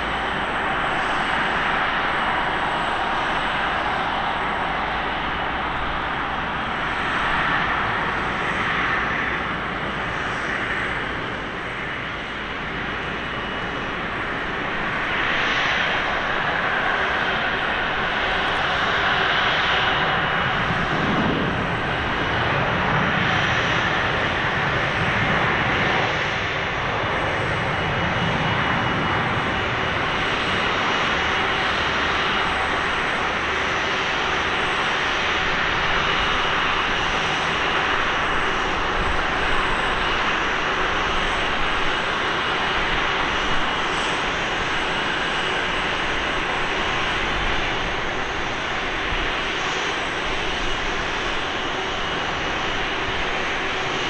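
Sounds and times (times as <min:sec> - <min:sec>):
jet engine rush: 0:00.0 - 0:54.0.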